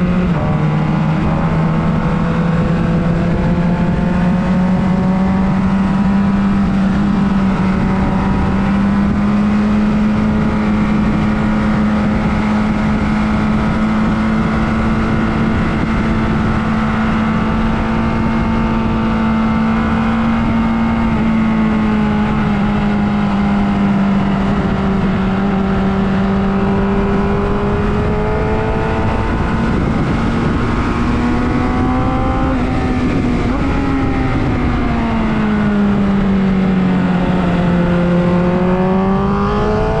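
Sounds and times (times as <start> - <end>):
motorcycle engine running: 0.0 - 40.0
wind rush: 0.0 - 40.0.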